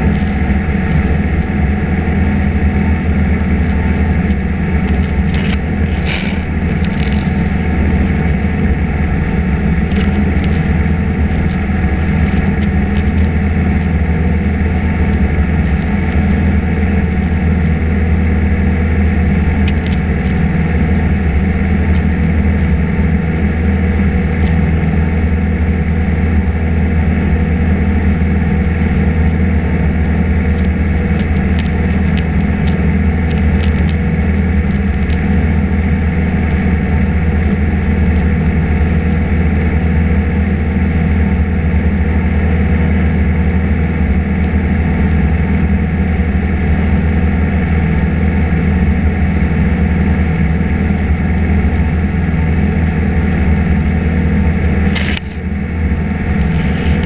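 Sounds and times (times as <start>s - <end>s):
aircraft engine droning in cabin: 0.0s - 57.0s.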